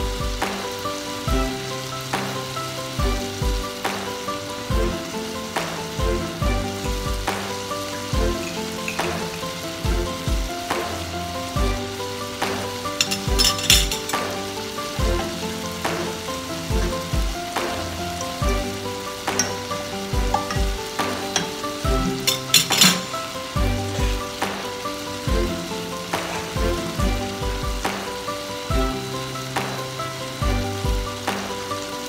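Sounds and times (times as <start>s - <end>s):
background music with steady beat: 0.0s - 32.0s
loud hissing bursts: 0.0s - 32.0s
vegetables sizzling in a pot: 0.0s - 32.0s.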